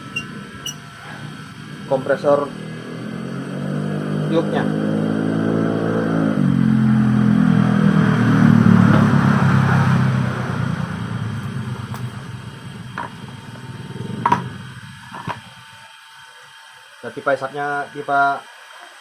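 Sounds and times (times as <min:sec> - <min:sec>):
passing vehicle engine: 0:00.0 - 0:15.6.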